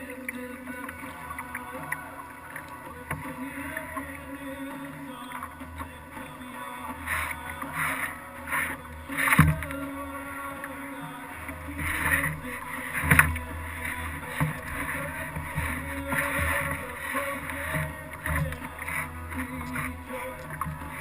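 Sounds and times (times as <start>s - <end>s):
paddle splashing in water: 0.1s - 21.0s
paddle knocking on hull: 0.8s - 21.0s.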